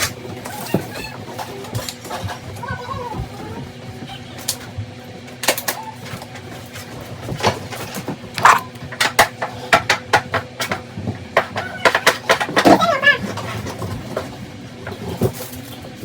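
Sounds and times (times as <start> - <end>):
hard objects clattering: 0.0 - 16.0.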